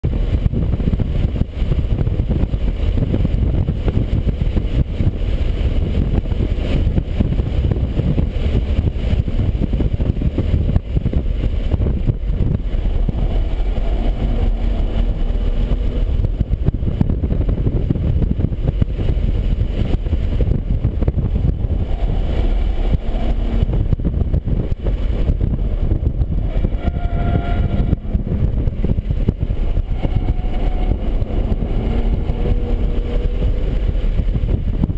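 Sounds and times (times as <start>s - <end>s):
car engine at speed: 0.0s - 34.9s
road and wind rumble: 0.0s - 34.9s.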